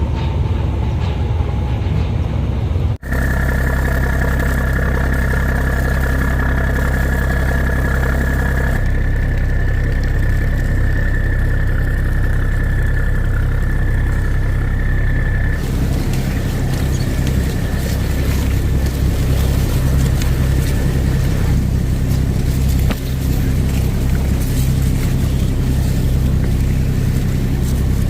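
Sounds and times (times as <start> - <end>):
boat engine rumbling: 3.0 - 28.0
high steady whine: 3.0 - 28.0.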